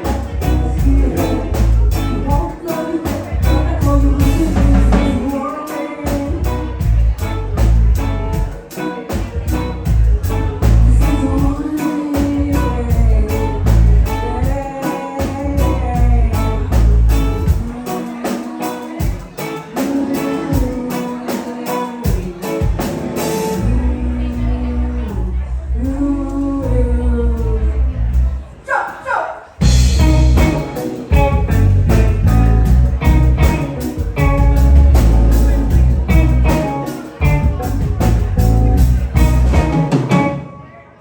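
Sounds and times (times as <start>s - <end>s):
live band playing: 0.0s - 41.0s
person singing: 0.0s - 41.0s.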